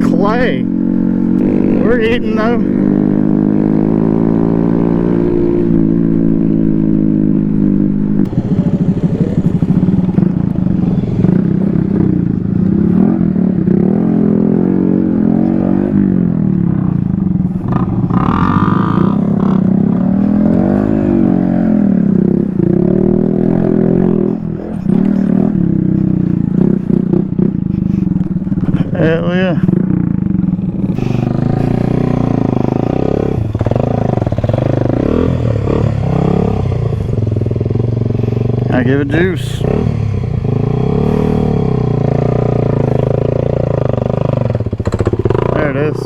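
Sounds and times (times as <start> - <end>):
small engine revving: 7.8 - 16.7, 17.7 - 46.0.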